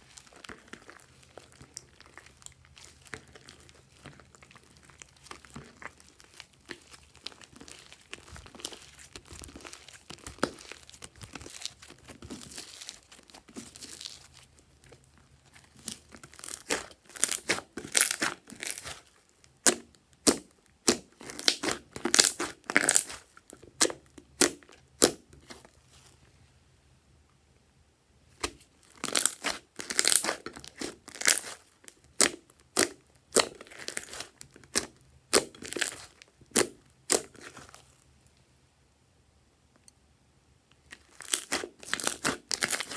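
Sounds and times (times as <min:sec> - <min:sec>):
slime squelching and popping: 0:00.0 - 0:25.8, 0:28.3 - 0:38.0, 0:40.8 - 0:42.9.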